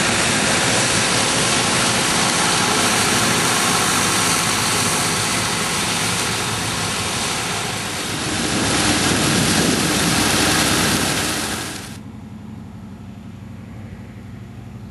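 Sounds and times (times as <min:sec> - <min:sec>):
loud rushing of straw: 0:00.0 - 0:12.0
tractor engine running: 0:00.0 - 0:13.5.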